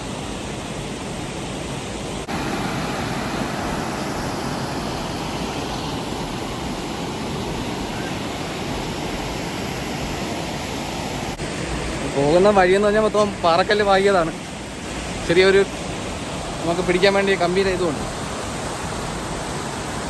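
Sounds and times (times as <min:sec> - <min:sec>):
waterfall rushing: 0:02.2 - 0:20.0.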